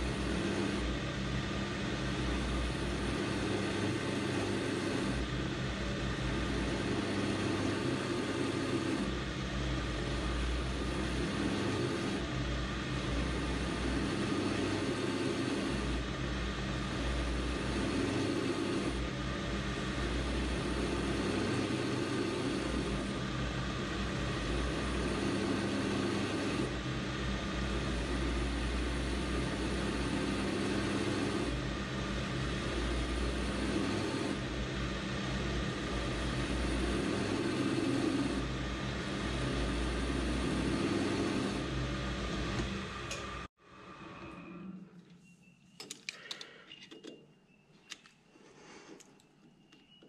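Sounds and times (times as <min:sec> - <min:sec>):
metal lathe running: 0:00.0 - 0:43.5.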